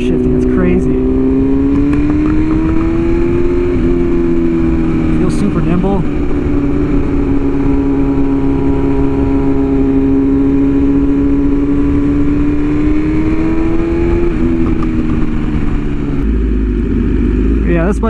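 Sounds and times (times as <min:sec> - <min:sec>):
wind noise: 0:00.0 - 0:16.2
motorcycle engine running: 0:00.0 - 0:18.0.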